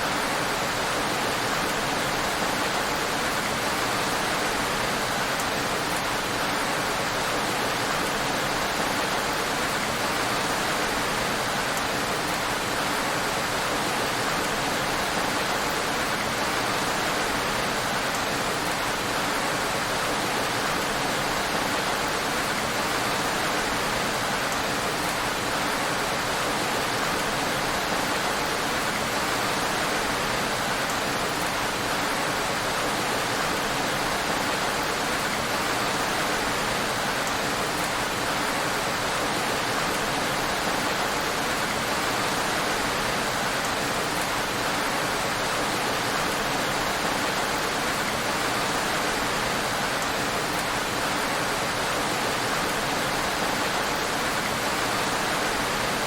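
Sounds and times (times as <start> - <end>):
heavy rain on a road: 0.0 - 56.0.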